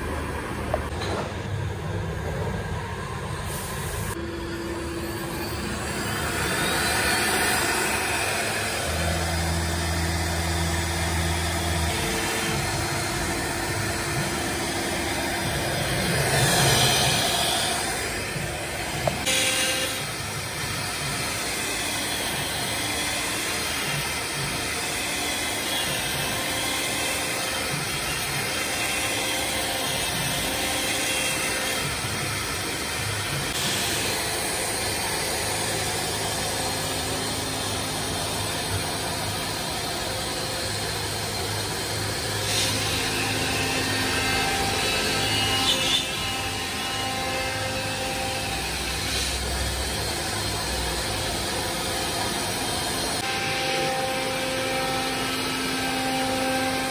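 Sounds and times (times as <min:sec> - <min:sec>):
router bit cutting wood: 0:04.1 - 0:56.9.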